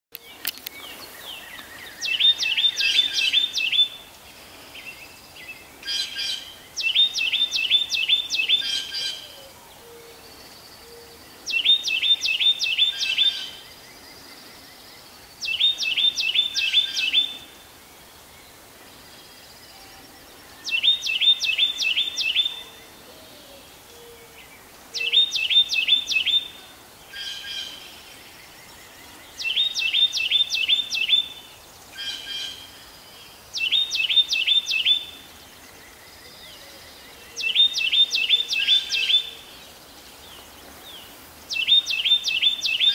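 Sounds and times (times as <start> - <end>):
wren singing rolling song: 0.1 - 42.9.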